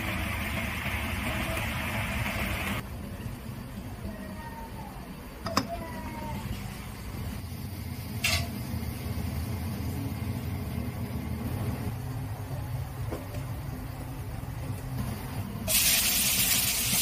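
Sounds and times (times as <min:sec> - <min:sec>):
low kitchen rumble: 0:00.0 - 0:17.0.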